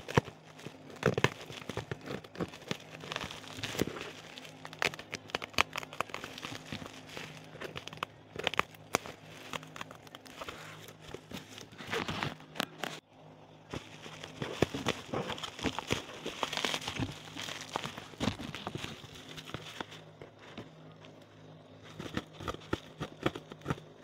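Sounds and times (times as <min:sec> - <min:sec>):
bubble wrap crinkling and clicking: 0:00.0 - 0:13.0, 0:13.7 - 0:20.6.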